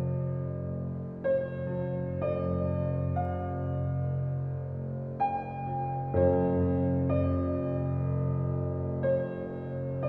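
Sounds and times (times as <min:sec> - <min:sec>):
soft slow piano music: 0:00.0 - 0:10.0.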